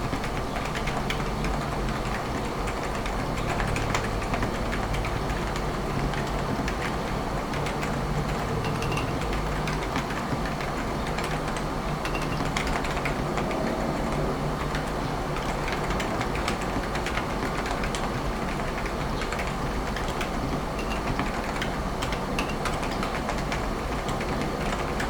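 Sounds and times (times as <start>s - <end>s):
soft muted keystrokes: 0.0s - 25.0s.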